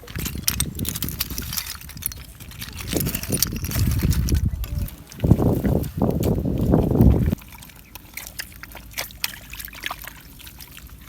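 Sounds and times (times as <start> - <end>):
water sloshing and splashing: 0.0 - 11.0
water trickling: 0.0 - 11.0.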